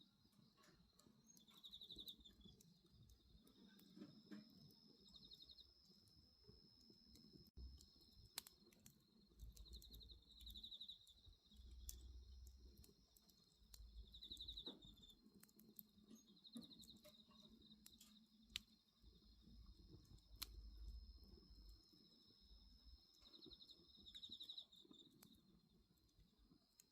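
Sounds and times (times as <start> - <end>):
faint bonfire crackling: 0.0 - 26.9
insects chirping: 0.0 - 26.9.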